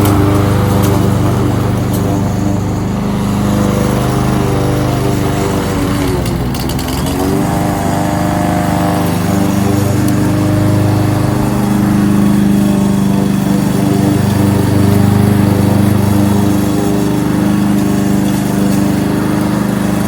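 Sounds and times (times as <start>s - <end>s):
lawnmower engine running: 0.0s - 20.0s.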